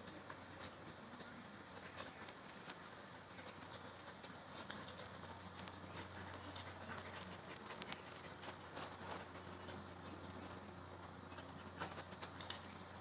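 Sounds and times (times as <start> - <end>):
paws scratching and tapping on concrete: 0.0 - 13.0.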